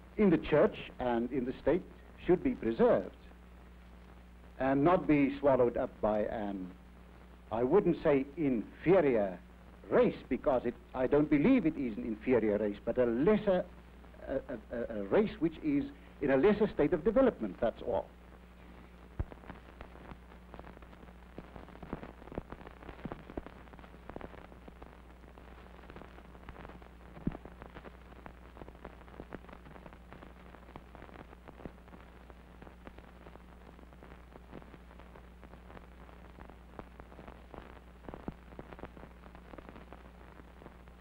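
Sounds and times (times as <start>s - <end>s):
film surface crackle: 0.0s - 41.0s
low mains hum: 0.0s - 41.0s.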